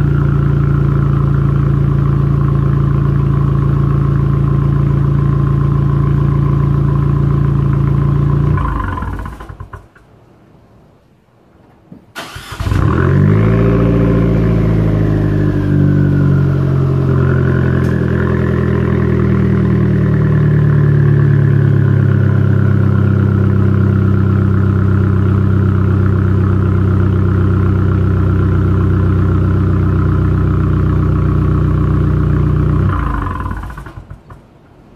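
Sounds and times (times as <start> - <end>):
car engine idling: 0.0 - 10.0, 12.2 - 34.8.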